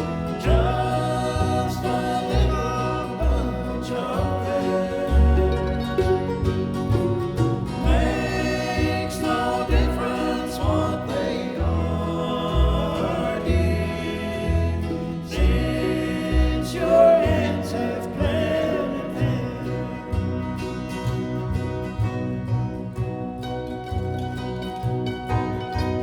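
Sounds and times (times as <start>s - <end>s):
voices singing in harmony: 0.0s - 21.7s
plucked acoustic strings: 0.0s - 26.0s.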